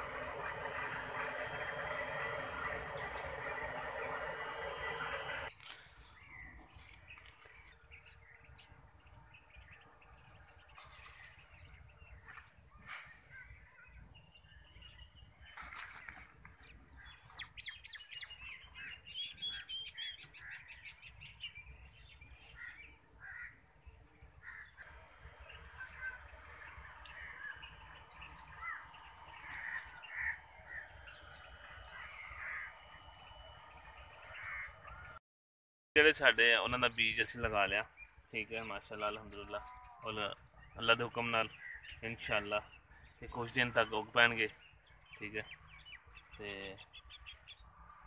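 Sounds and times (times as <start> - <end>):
birds chirping and calling: 0.0 - 35.2, 36.5 - 48.0.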